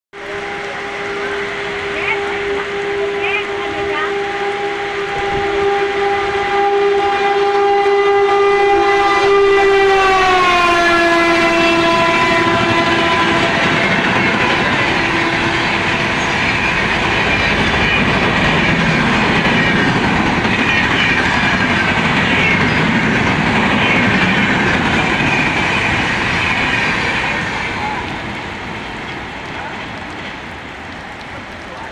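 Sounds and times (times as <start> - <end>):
train horn: 0.2 - 30.6
train coaches rushing and clattering: 0.2 - 31.9.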